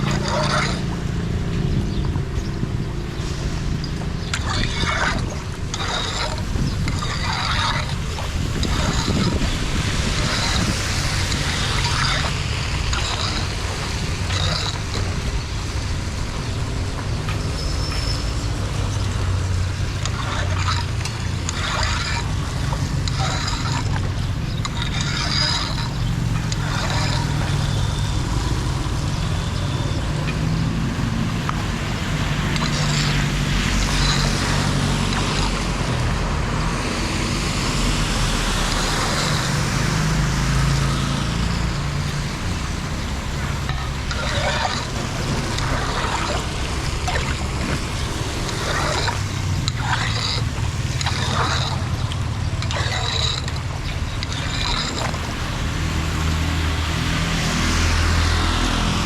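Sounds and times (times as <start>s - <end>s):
floodwater rushing through drain: 0.0s - 59.0s
water splashing: 0.0s - 59.0s.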